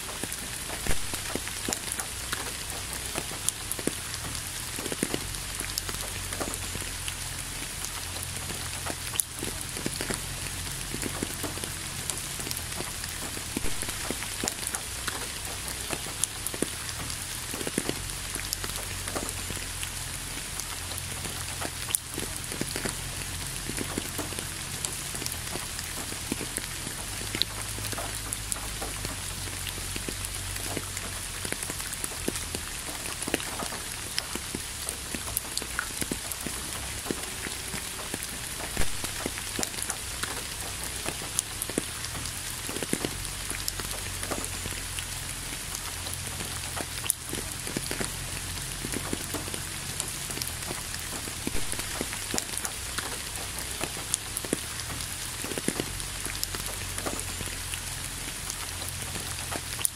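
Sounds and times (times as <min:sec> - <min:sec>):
raindrops ticking: 0:00.0 - 0:59.9
steady rain hiss: 0:00.0 - 0:59.9.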